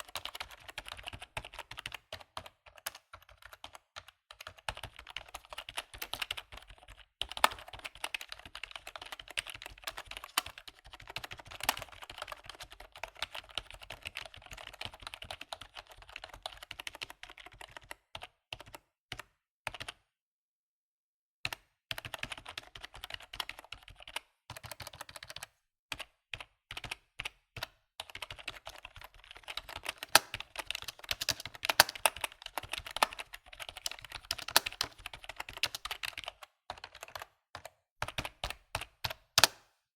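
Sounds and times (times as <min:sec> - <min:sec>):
computer keyboard typing: 0:00.0 - 0:20.0, 0:21.5 - 0:39.7.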